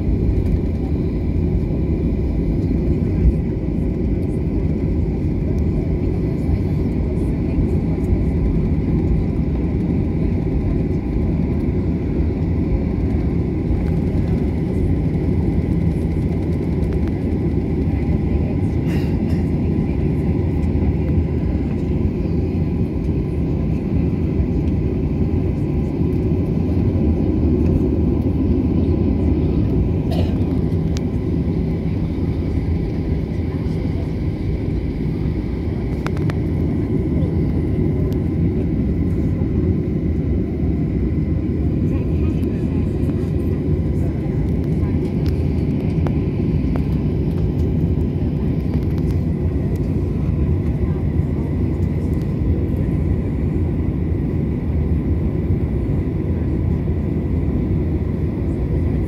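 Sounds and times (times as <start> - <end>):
jet cabin low rumble: 0.0 - 59.0.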